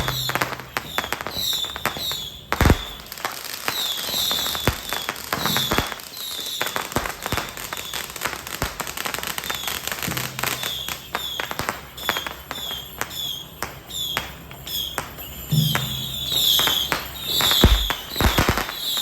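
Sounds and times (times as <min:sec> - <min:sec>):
short falling whistles: 0:00.0 - 0:03.1, 0:03.7 - 0:08.1, 0:09.4 - 0:19.0
firecrackers banging and crackling: 0:00.0 - 0:19.0.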